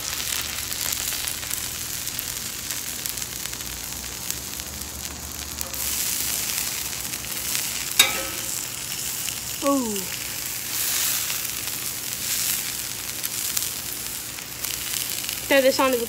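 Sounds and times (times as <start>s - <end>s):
food sizzling on griddle: 0.0s - 16.0s.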